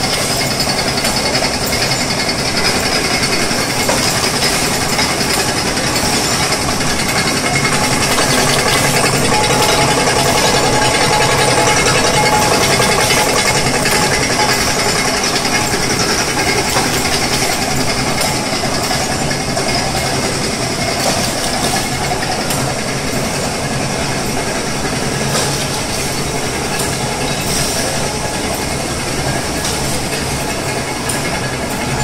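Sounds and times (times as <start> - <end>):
packaging machine hum and clatter: 0.0 - 32.0.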